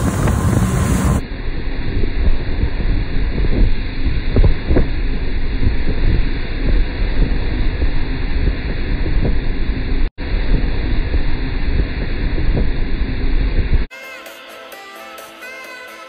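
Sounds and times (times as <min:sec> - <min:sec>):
motorboat low rumble: 0:00.0 - 0:13.9
wind buffeting microphone: 0:00.0 - 0:13.9.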